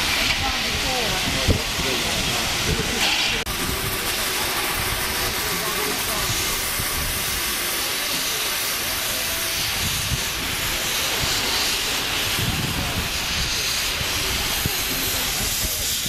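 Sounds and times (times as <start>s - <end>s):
faint crowd chatter: 0.0s - 16.0s
steam locomotive hissing: 0.0s - 16.0s.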